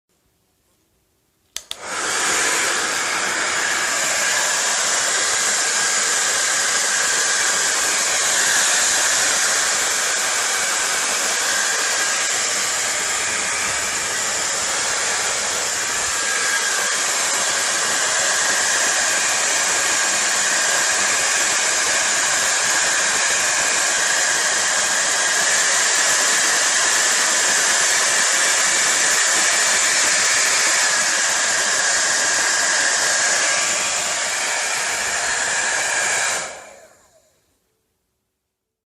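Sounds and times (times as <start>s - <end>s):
hair dryer running: 1.5s - 37.4s.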